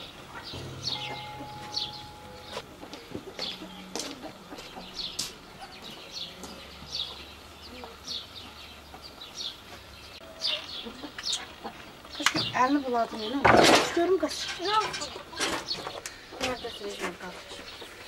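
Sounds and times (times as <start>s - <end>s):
birds chirping: 0.0s - 13.4s, 14.0s - 18.0s.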